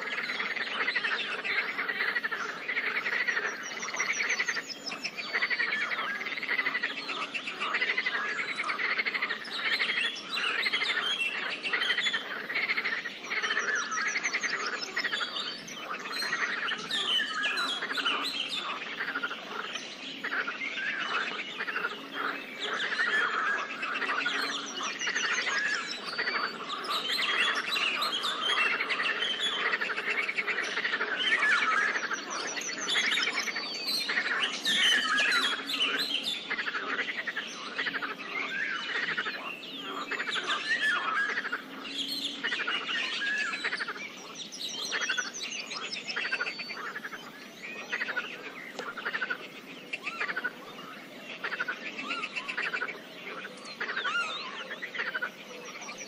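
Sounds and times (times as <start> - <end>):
birds chirping and trilling: 0.0 - 56.0
frogs croaking: 0.0 - 56.0.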